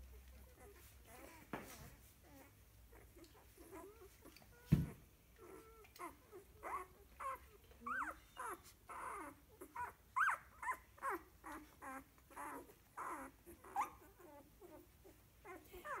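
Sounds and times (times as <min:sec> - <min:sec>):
puppies squeaking and whimpering: 0:00.1 - 0:16.0.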